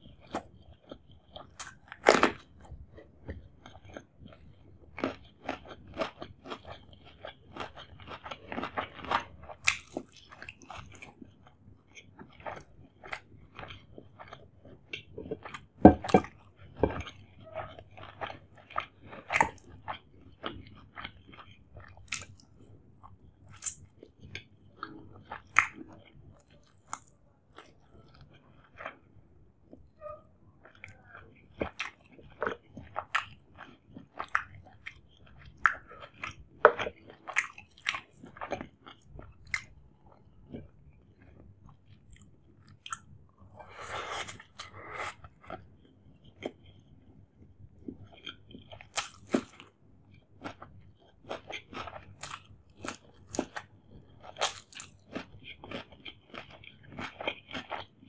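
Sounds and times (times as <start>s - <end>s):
person chewing: 0.0s - 29.9s, 30.6s - 58.0s.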